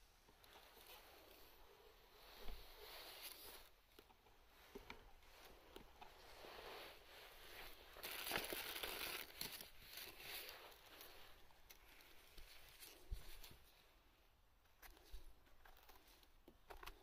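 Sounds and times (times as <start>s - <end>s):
gloved hands rustling and crinkling: 0.0s - 17.0s.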